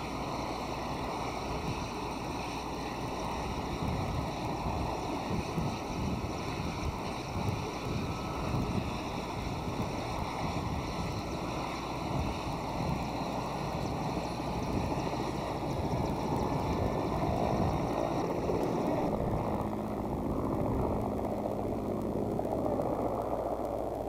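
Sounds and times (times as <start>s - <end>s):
helicopter engine and rotor rumble: 0.0s - 24.0s
high turbine whine: 0.0s - 24.0s.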